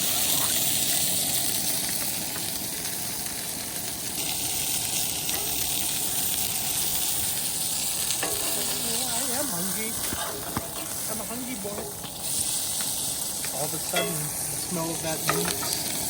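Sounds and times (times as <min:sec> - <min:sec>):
patties sizzling in a pan: 0:00.0 - 0:16.0.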